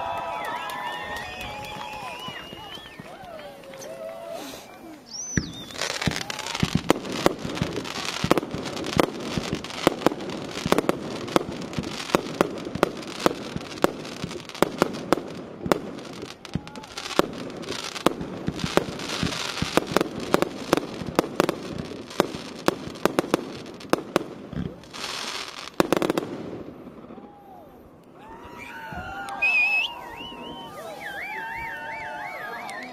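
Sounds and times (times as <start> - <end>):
fireworks bangs: 0.0 - 27.6, 28.4 - 32.9
fireworks hiss and crackle: 0.6 - 27.1, 27.8 - 32.9.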